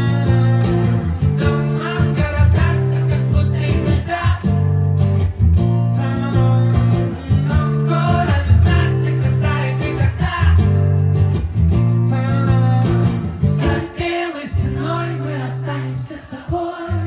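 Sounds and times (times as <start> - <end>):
low bass line: 0.0 - 13.8
acoustic guitar chords: 0.0 - 17.0.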